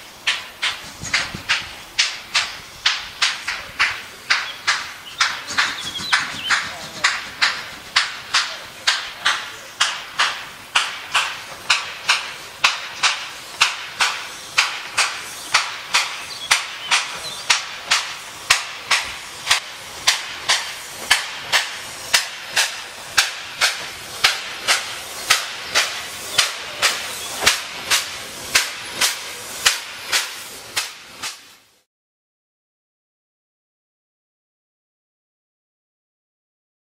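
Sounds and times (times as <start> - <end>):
steam locomotive chuffing: 0.0 - 31.8.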